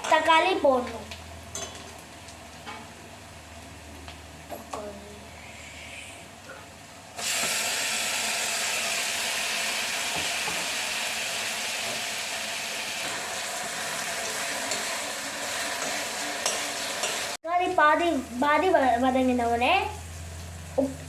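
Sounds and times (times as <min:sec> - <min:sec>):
onion and tomato sizzling in oil: 0:00.0 - 0:05.4, 0:06.7 - 0:21.0.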